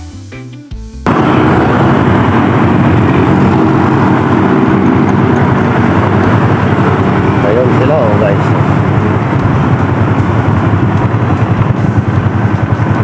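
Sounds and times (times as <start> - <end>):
guitar music: 0.0 - 13.0
motorcycle engine running: 1.1 - 13.0
wind and road noise: 1.1 - 13.0.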